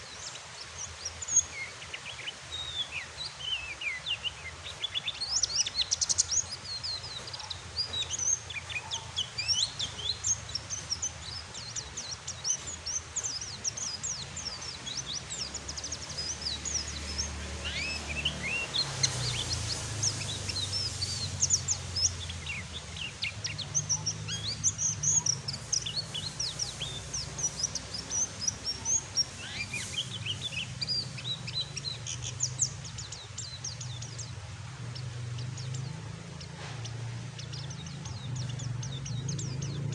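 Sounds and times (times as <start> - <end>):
birds twittering: 0.0 - 39.9
rain hiss: 0.0 - 39.9.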